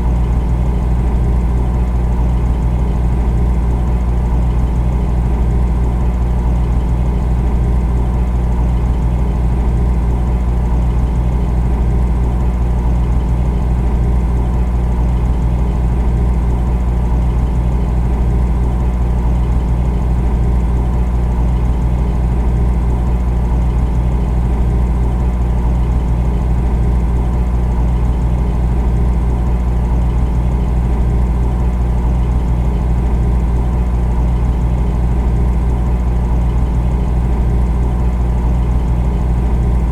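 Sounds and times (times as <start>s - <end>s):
refrigerator humming: 0.0s - 39.9s.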